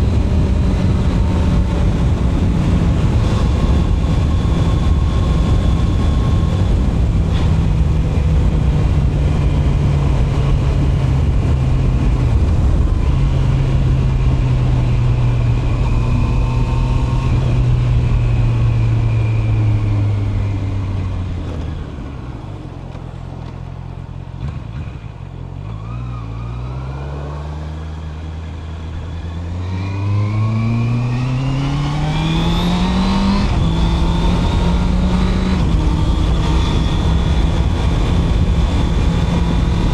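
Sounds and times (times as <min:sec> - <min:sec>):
wind noise: 0:00.0 - 0:25.8, 0:27.9 - 0:39.9
motorcycle engine and exhaust: 0:00.0 - 0:39.9
motorcycle gearchange: 0:00.0 - 0:39.9.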